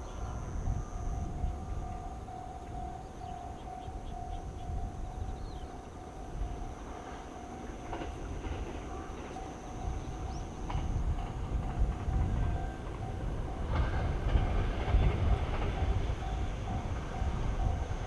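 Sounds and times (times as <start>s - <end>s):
approaching train rumble: 0.0s - 18.0s
level crossing warning bell: 1.1s - 14.2s, 15.1s - 18.0s.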